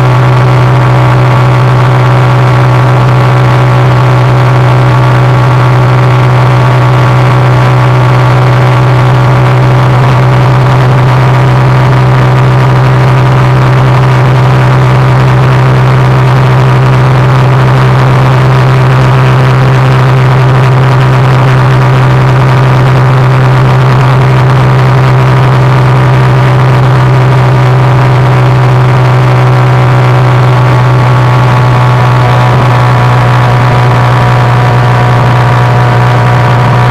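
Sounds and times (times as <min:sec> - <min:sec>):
motorcycle engine droning: 0:00.0 - 0:36.9.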